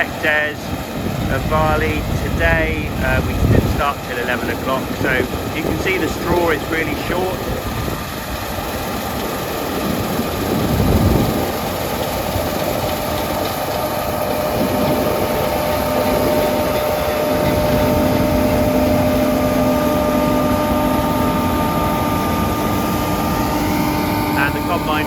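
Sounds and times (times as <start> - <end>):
combine harvester running: 0.0 - 25.0
low machinery tone: 0.0 - 25.0
machinery whining tones: 0.0 - 25.0.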